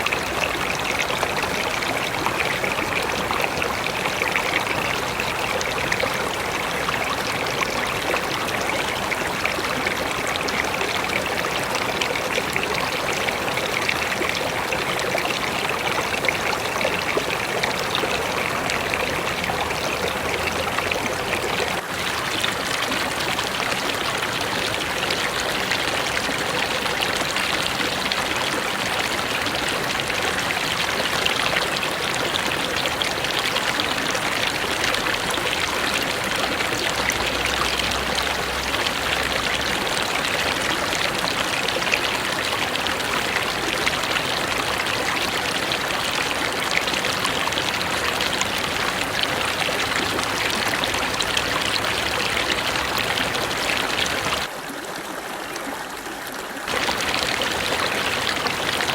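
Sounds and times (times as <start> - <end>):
river water rushing: 0.0 - 55.1, 56.6 - 58.9.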